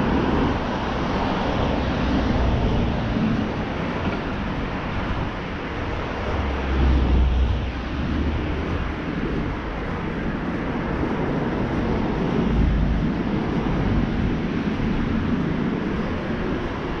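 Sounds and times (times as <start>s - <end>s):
city street traffic: 0.0s - 17.0s
low rumble: 0.0s - 17.0s.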